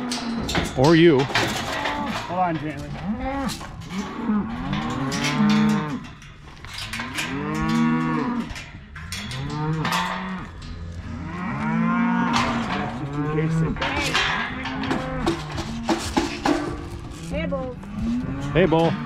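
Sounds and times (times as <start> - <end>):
cattle mooing: 1.4 - 6.2, 6.9 - 19.0.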